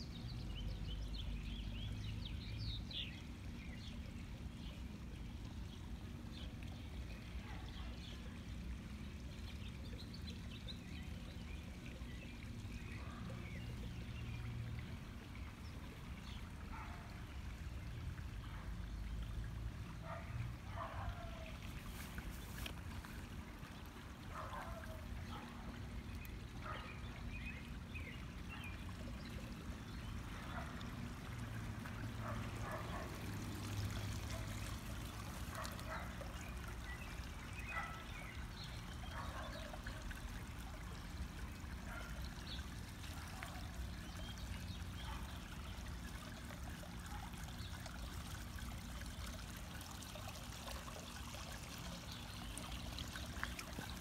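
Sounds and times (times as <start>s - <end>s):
fountain trickling and splashing: 0.0s - 54.0s.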